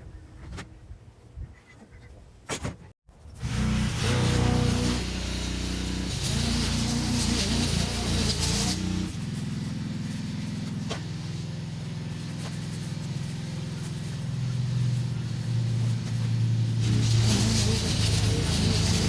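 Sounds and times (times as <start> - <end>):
engine running: 3.2 - 19.0.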